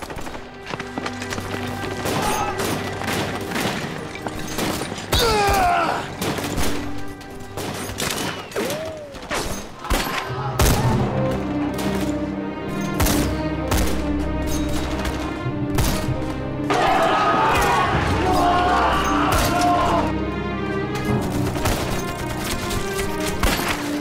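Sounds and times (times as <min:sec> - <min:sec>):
dramatic music score: 0:00.0 - 0:24.0.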